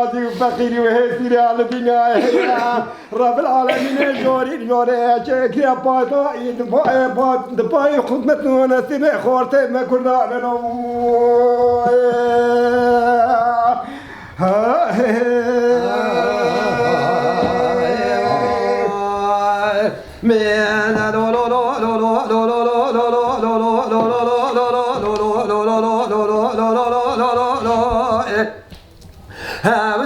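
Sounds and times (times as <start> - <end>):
unaccompanied voice chanting: 0.0 - 4.6, 6.1 - 28.7, 29.4 - 30.0.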